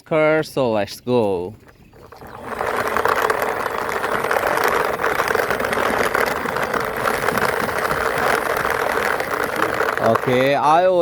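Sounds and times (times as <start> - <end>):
toy wheels whirring and rattling: 1.6 - 11.0.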